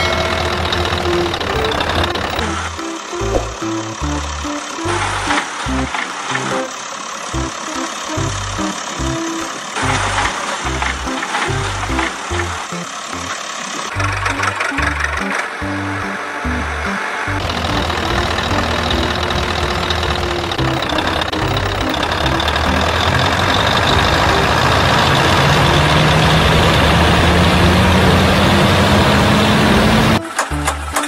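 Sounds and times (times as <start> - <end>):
truck engine running and revving: 0.0 - 31.0.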